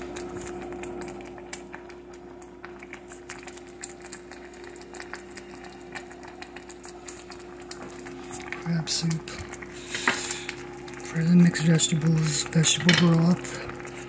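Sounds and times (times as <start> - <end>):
soup bubbling in a pot: 0.0 - 14.0
steady low hum: 0.0 - 14.0.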